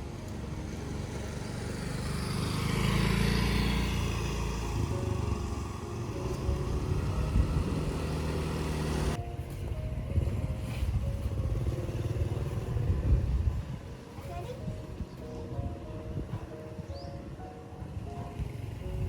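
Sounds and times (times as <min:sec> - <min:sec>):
motorbike passing by: 0:00.0 - 0:17.1, 0:17.8 - 0:19.0
traffic engine rumble: 0:00.0 - 0:19.0.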